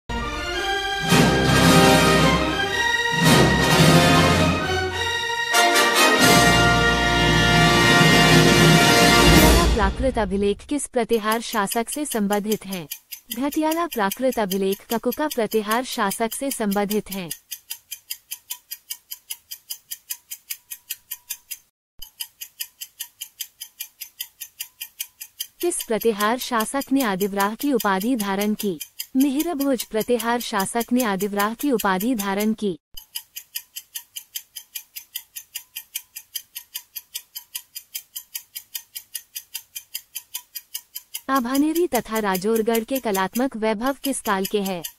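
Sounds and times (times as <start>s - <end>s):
clock ticking rapidly: 0.6s - 44.9s.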